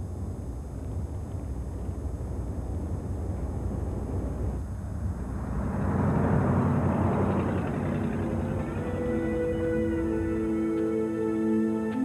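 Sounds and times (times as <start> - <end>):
car road rumble from inside: 0.0 - 11.6
car driving along road: 0.0 - 12.0.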